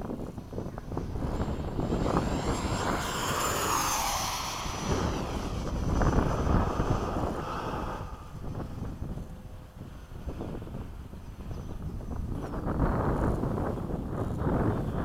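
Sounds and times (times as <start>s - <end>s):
model jet fan whine: 0.0s - 15.0s
wind buffeting microphone: 0.0s - 15.0s.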